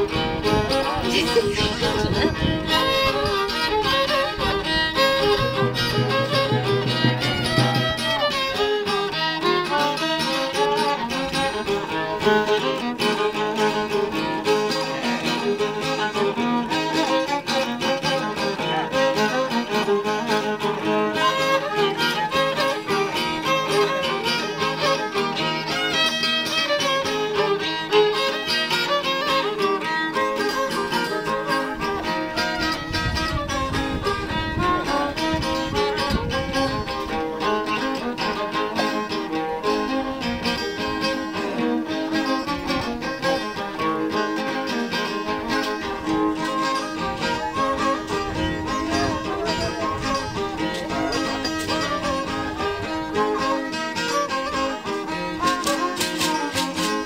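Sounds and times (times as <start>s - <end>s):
fiddle dance tune: 0.0s - 57.0s.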